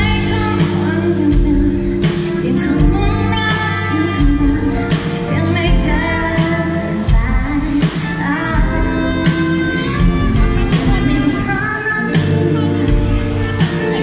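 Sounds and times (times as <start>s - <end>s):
band with guitar bass drums: 0.0s - 14.0s
woman singing pop song: 0.0s - 14.0s.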